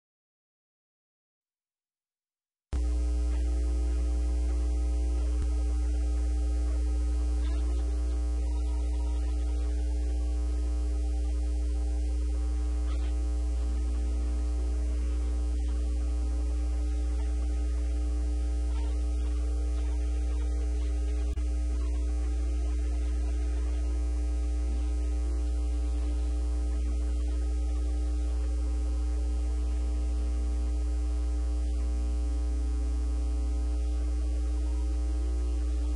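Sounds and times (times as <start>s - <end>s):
electrical mains hum: 2.7s - 35.9s.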